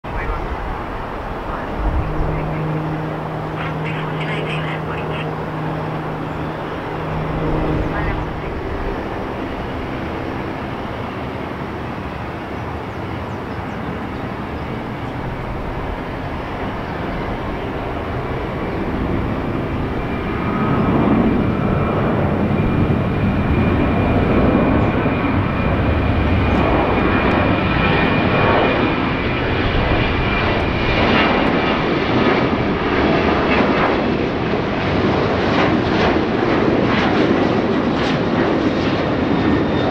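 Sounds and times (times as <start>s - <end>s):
high steady engine whine: 0.0s - 39.9s
jet engines rumbling: 0.0s - 39.9s.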